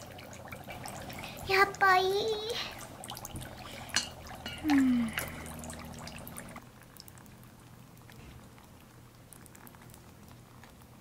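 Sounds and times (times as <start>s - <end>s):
dry ice bubbling in water: 0.0s - 11.0s.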